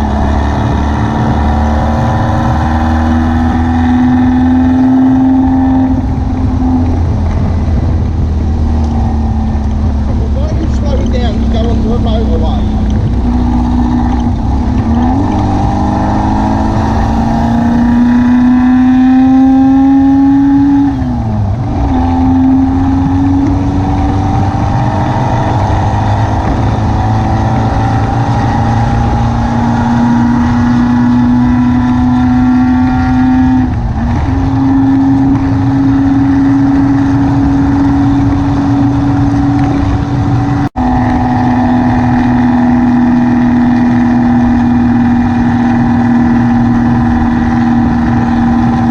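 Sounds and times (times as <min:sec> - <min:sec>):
car engine while driving: 0:00.0 - 0:48.9
road rumble: 0:00.0 - 0:48.9.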